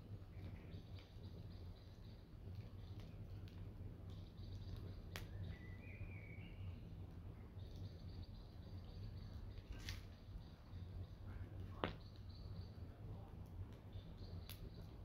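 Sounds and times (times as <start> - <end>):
campfire crackling: 0.0 - 15.0
low background rumble: 0.0 - 15.0.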